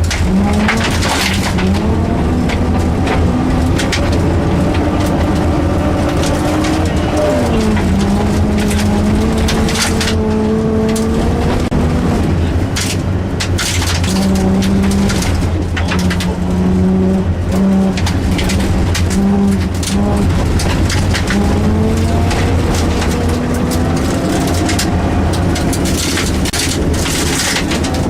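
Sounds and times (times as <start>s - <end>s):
rally car engine gear changes: 0.0s - 28.0s.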